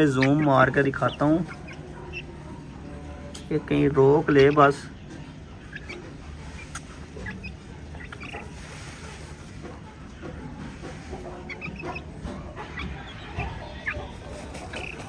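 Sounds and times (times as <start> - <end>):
chickens peeping and clucking: 0.0 - 15.0.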